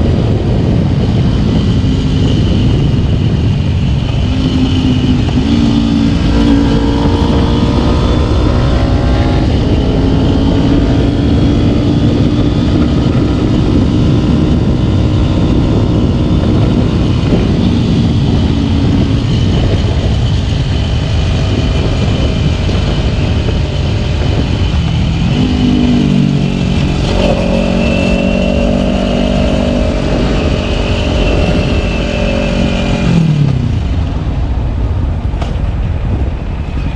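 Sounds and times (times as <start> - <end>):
motorcycle engine running: 0.0 - 36.9
wind noise on microphone: 0.0 - 36.9.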